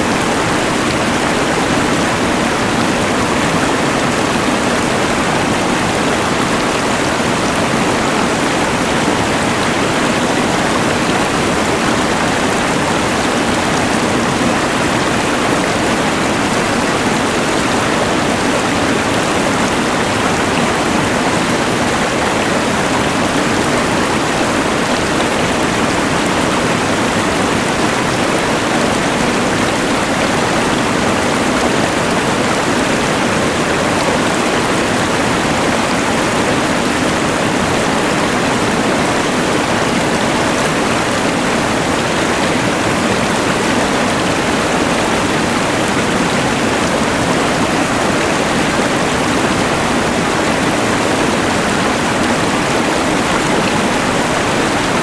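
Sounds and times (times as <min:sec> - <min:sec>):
rushing river: 0:00.0 - 0:55.0.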